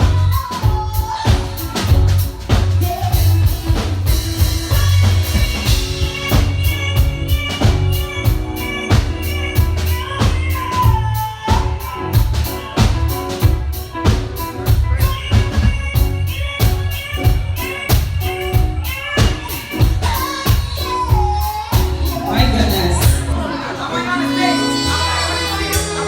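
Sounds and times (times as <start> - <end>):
drum kit beat: 0.0 - 26.0
soul band playing: 0.0 - 26.0.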